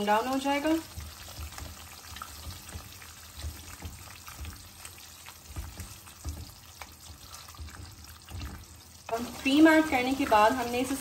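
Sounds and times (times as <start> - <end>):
sauce sizzling in a pan: 0.0 - 11.0
spatula scraping against a pan: 0.6 - 11.0.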